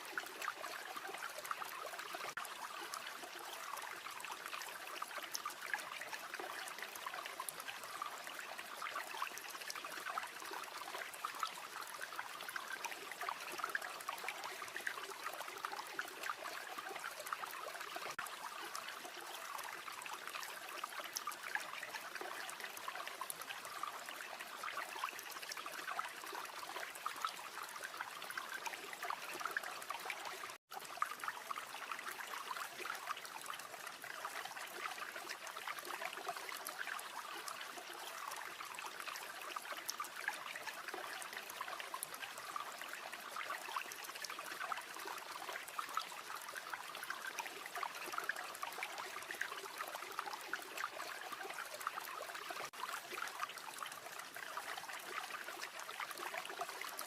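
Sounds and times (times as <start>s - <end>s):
river water flowing and babbling: 0.0s - 57.0s.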